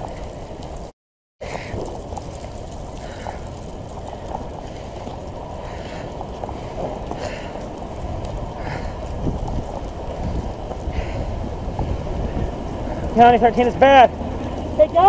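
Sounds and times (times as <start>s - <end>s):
small crackles and clicks: 0.0s - 15.0s
wind and fire roaring: 0.0s - 15.0s.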